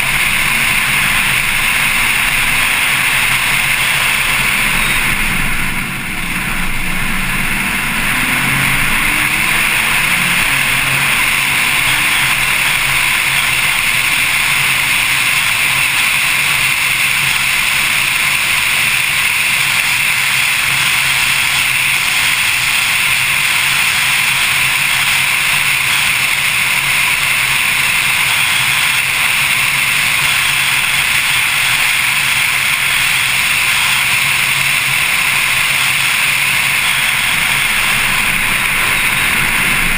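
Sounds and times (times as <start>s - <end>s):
car engine at speed: 0.0s - 39.9s
wind and road noise: 0.0s - 39.9s.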